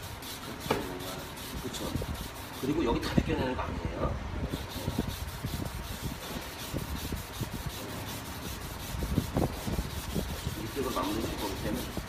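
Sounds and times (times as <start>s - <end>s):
wet sanding by hand: 0.0s - 3.5s, 4.5s - 12.0s.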